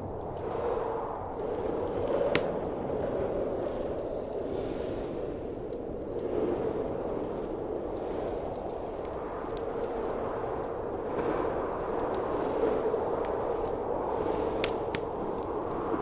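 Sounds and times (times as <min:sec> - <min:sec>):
blizzard wind rushing: 0:00.0 - 0:16.0
wood fire crackling: 0:00.0 - 0:16.0.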